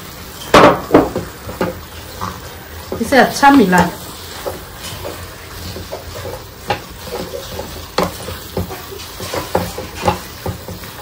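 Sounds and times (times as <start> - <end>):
meat sizzling in a pan: 0.0 - 11.0
spatula knocking and scraping pan: 0.4 - 11.0.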